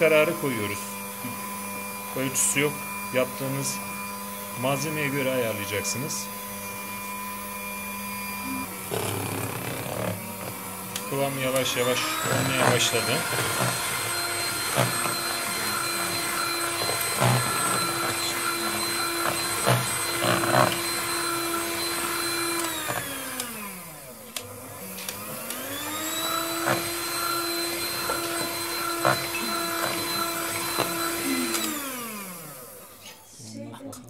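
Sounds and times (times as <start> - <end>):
electric hand mixer motor whine: 0.0 - 33.0.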